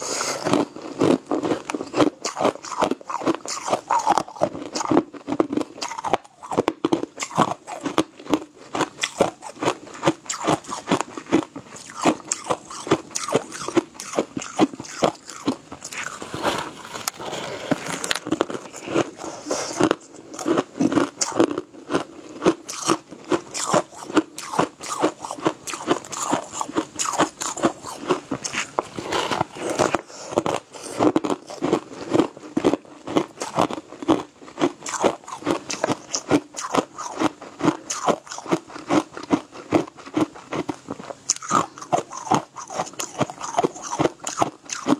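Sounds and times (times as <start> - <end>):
crunching and chewing ice: 0.0 - 44.9.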